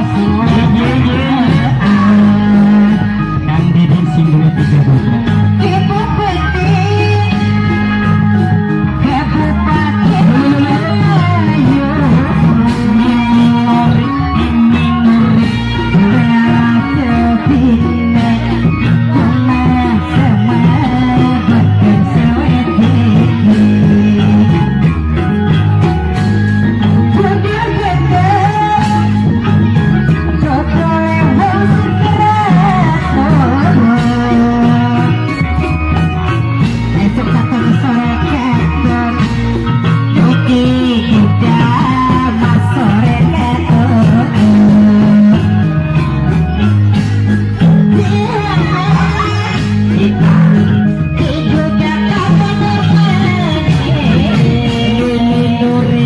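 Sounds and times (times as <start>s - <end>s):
held bass notes: 0.0s - 56.0s
music with singing over beat: 0.0s - 56.0s
ornamented melody line: 0.0s - 56.0s
plucked guitar: 0.0s - 56.0s.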